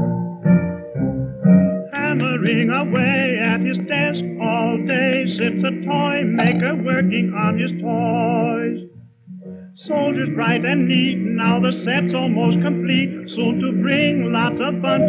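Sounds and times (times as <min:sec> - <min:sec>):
cartoon soundtrack music: 0:00.0 - 0:15.0
person singing with vibrato: 0:01.9 - 0:08.8, 0:09.8 - 0:15.0.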